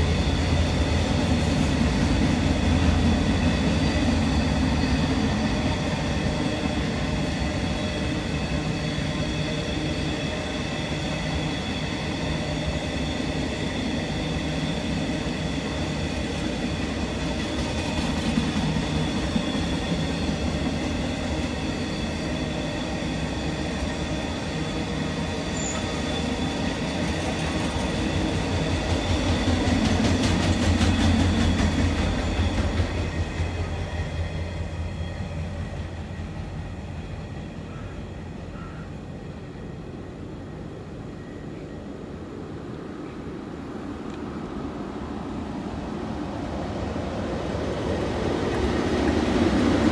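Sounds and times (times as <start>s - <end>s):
freight wagons rumbling on rails: 0.0s - 42.4s, 45.2s - 49.9s
high whine of train wheels: 0.0s - 49.9s.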